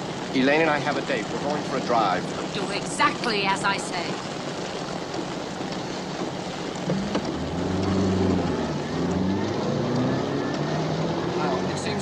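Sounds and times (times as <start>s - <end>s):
car engine: 0.0s - 12.0s
rain falling on a car: 0.0s - 12.0s.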